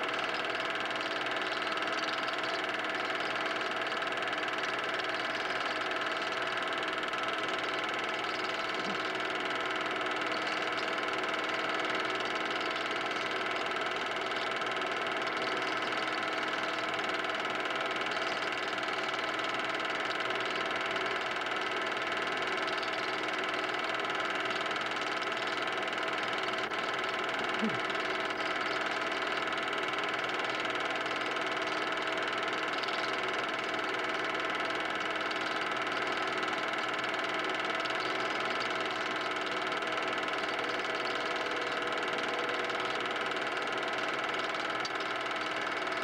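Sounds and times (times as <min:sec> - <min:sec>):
film projector whirring: 0:00.0 - 0:46.0.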